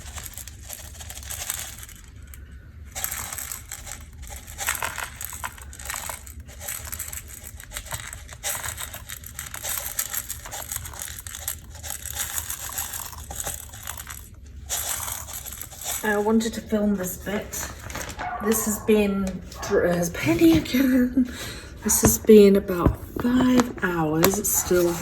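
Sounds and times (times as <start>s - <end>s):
crinkling and light clicking: 0.0s - 25.0s
steady low hum: 0.0s - 25.0s.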